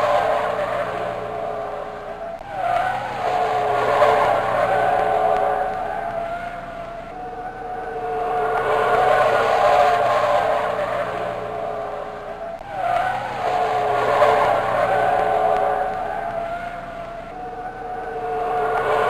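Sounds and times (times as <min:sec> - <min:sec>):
high-pitched car engine and tyres: 0:00.0 - 0:19.0.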